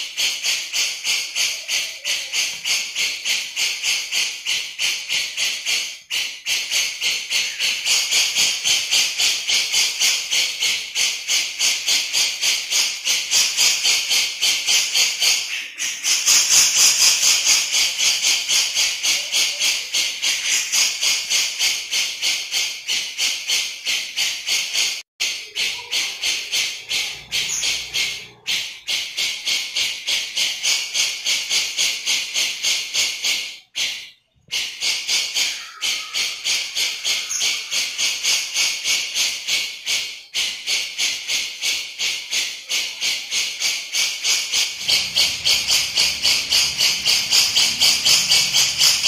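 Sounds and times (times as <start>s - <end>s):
bulbul harsh chattering call: 0.0s - 49.0s.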